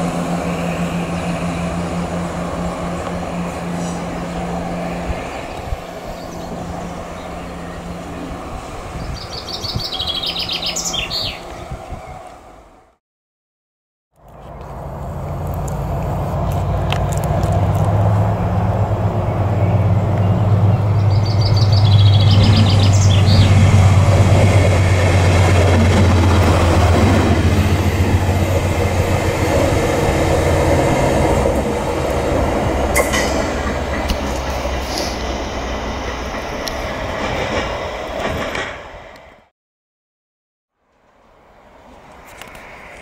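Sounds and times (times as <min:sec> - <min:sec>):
diesel locomotive passing: 0:00.0 - 0:13.0, 0:14.2 - 0:39.5, 0:41.1 - 0:43.0.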